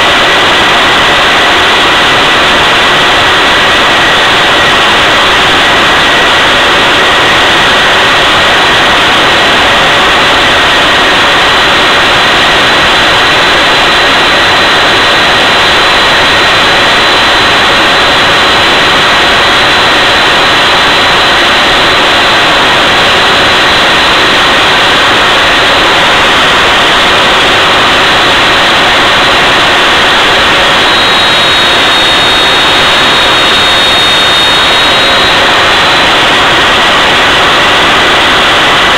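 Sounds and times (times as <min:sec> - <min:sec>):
faint high whine: 0:00.0 - 0:38.9
jet engine roaring: 0:00.0 - 0:38.9.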